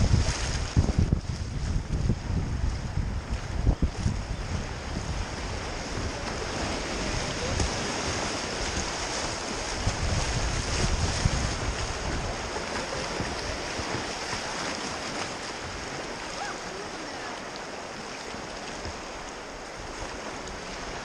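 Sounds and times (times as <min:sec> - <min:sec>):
rushing whitewater: 0:00.0 - 0:21.0
wind buffeting microphone: 0:00.0 - 0:21.0.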